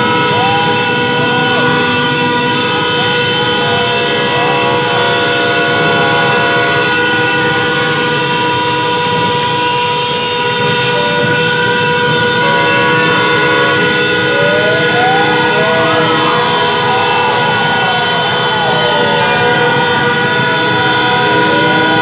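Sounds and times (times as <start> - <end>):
motorcycle horns blaring: 0.0 - 22.0.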